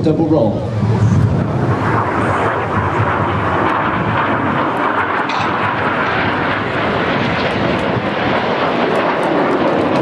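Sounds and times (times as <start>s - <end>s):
jet roar: 0.0s - 10.0s.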